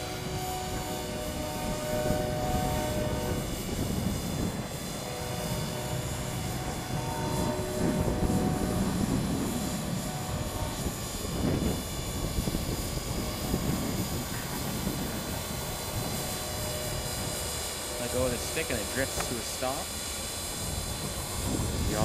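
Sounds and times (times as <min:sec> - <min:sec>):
model helicopter motor whine: 0:00.0 - 0:22.0
rotor blades whirring: 0:00.0 - 0:22.0
wind buffeting microphone: 0:00.0 - 0:22.0.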